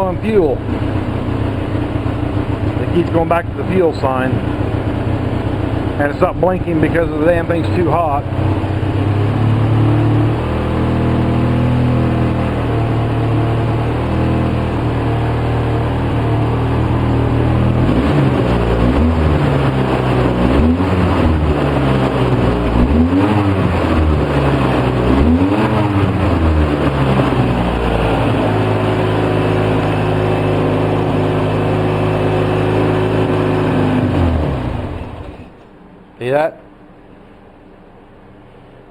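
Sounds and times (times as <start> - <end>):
engine idling rough and revving: 0.0 - 35.7.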